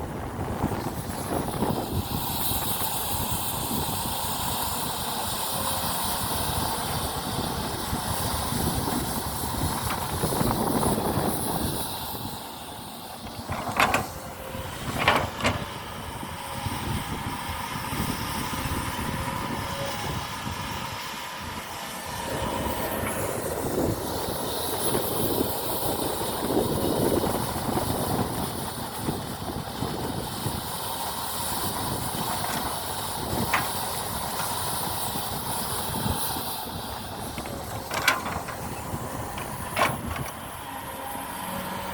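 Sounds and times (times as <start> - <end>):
excavator running: 0.0 - 41.9.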